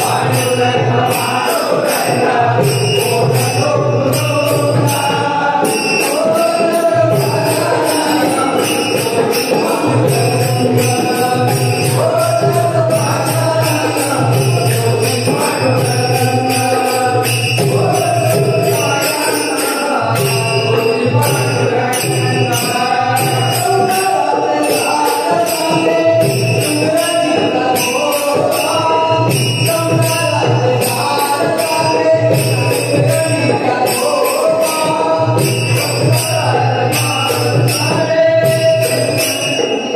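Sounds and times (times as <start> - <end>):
hand cymbals jingling: 0.0 - 39.9
person singing devotional song: 0.0 - 39.9.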